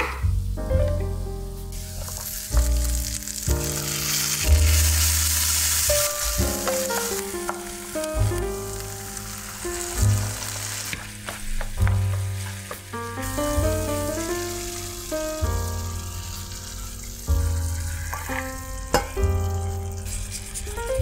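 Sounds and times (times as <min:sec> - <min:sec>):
background music with bass: 0:00.0 - 0:21.0
vegetables sizzling in oil: 0:00.1 - 0:21.0.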